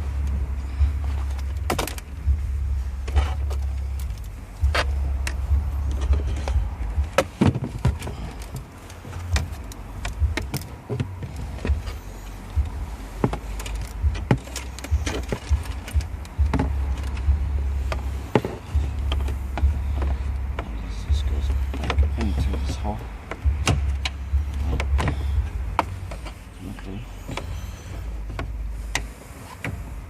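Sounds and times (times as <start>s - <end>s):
low rumble: 0.0s - 30.0s
parts clicking and rattling: 0.0s - 30.0s.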